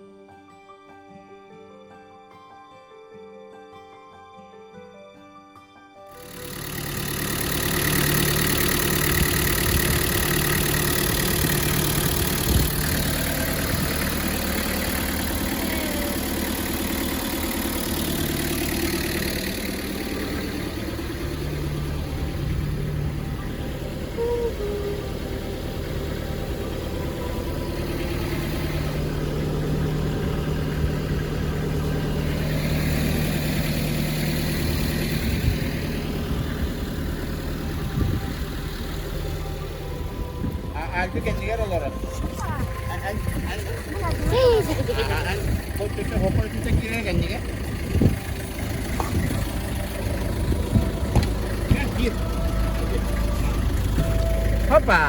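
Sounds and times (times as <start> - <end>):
vehicle engine running: 6.1 - 55.0.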